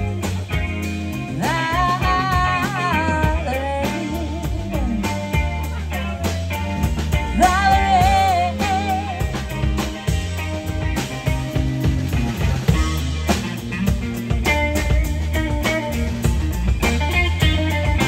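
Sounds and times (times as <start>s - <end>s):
lead guitar bending notes: 0.0s - 18.0s
live band playing: 0.0s - 18.0s.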